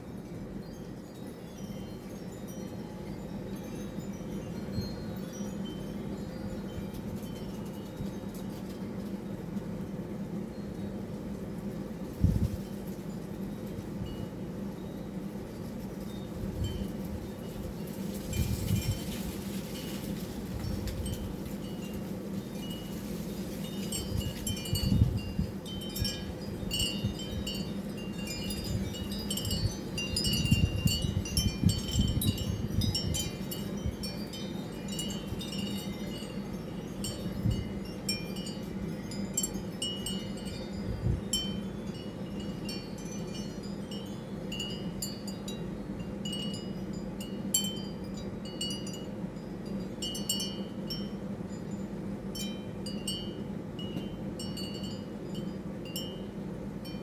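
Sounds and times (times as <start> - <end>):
steady low hum: 0.0 - 57.0
wind chimes tinkling: 0.0 - 57.0.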